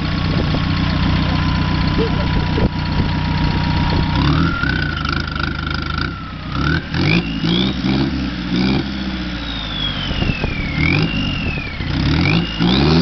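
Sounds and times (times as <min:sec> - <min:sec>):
high whine: 0:00.0 - 0:13.0
motorcycle engine revving: 0:00.0 - 0:13.0.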